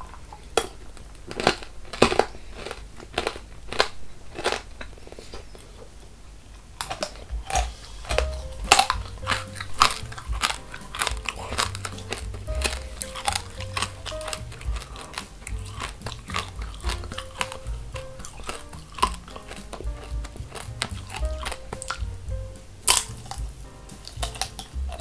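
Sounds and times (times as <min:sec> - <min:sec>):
hard candy crunching: 0:00.4 - 0:05.8, 0:06.8 - 0:25.0.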